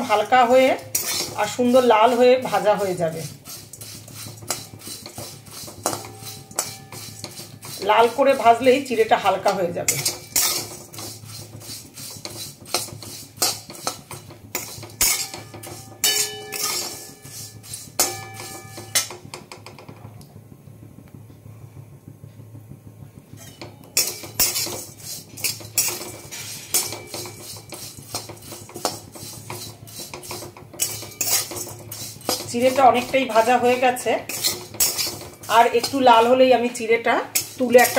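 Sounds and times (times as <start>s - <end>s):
metal spatula scraping a pan: 0.0s - 19.2s, 23.4s - 37.9s.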